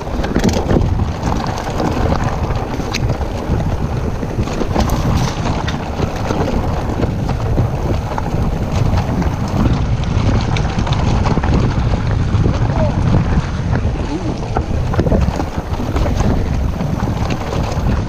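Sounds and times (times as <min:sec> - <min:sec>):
bike tyres rumbling on dirt trail: 0:00.0 - 0:18.0
clicks and rattles of stones: 0:00.0 - 0:18.0
wind buffeting microphone: 0:00.0 - 0:18.0.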